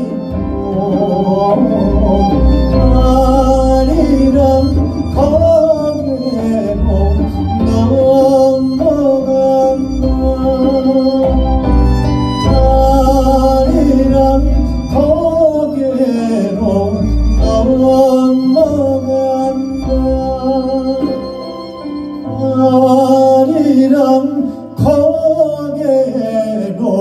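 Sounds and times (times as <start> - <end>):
double bass: 0.0 - 27.0
man singing into a microphone: 0.0 - 27.0.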